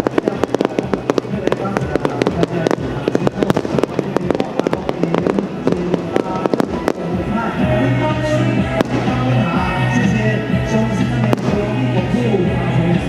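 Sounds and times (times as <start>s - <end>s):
fireworks bangs and cracks: 0.0s - 7.6s, 8.2s - 10.2s, 11.0s - 12.1s
music over loudspeaker: 0.0s - 13.0s.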